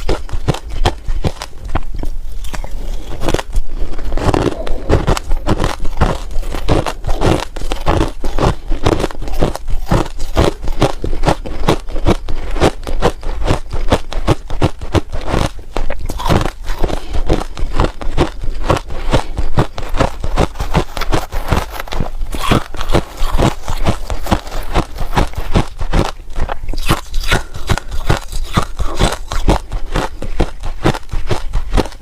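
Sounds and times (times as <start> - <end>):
ice crunching being chewed: 0.0 - 32.0.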